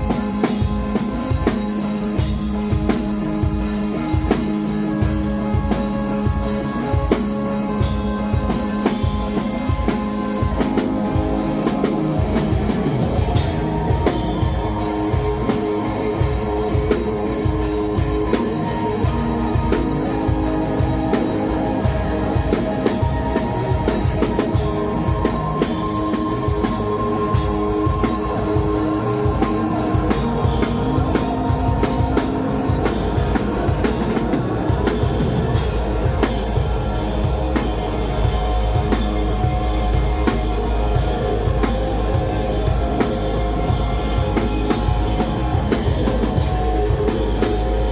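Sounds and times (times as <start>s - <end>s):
rock music with drums and guitar: 0.0s - 47.9s.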